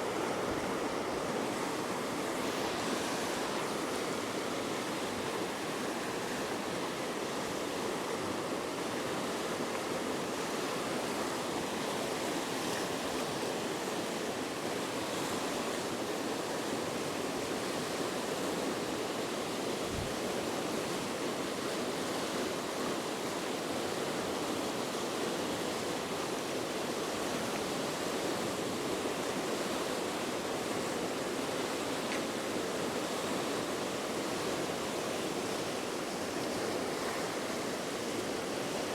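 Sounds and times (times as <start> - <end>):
river water rushing over rapids: 0.0 - 38.9.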